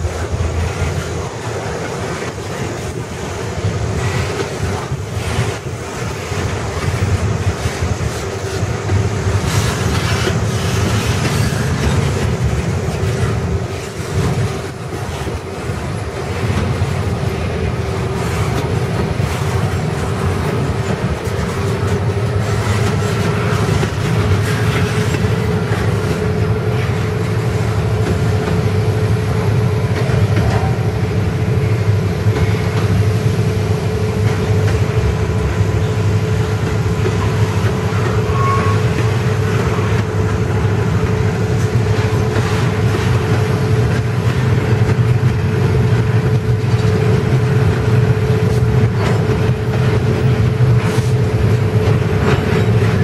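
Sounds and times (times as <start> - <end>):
steel train wheels rumbling on rail: 0.0 - 53.0.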